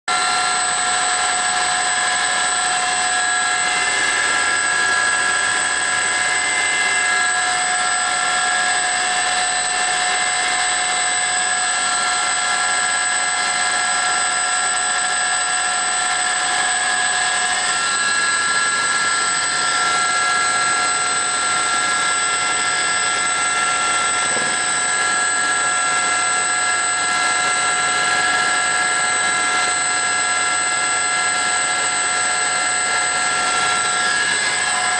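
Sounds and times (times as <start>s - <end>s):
helicopter turbine and rotor drone: 0.1s - 34.9s
high turbine whine: 0.1s - 34.9s.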